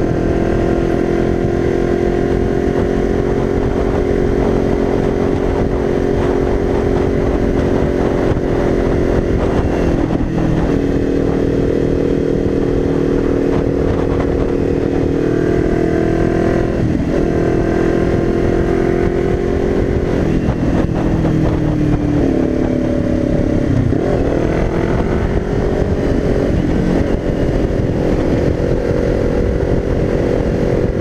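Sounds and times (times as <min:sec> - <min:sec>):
motorcycle engine cruising: 0:00.0 - 0:31.0
wind rush: 0:00.0 - 0:31.0.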